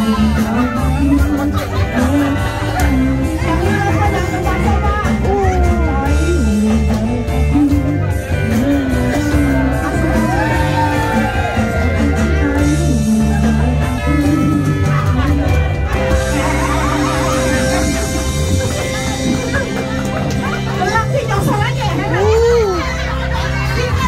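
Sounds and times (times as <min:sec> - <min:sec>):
person singing into microphone: 0:00.0 - 0:19.5
live band music: 0:00.0 - 0:24.0.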